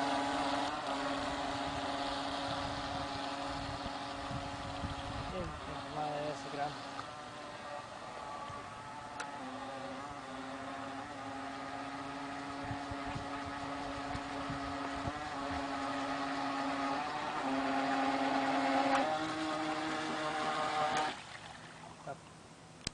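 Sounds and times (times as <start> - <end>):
model speedboat motor whine: 0.0 - 22.2.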